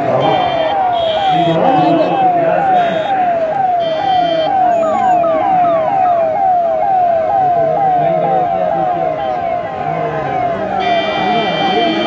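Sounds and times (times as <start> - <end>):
higher siren: 0.0 - 12.0
siren falling tone: 0.2 - 12.0.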